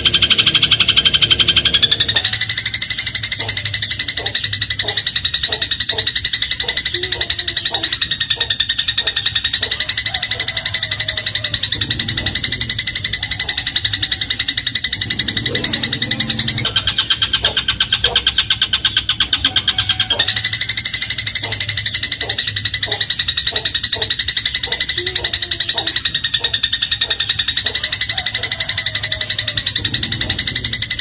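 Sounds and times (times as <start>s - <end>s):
sparrow trilling: 0.0s - 31.0s.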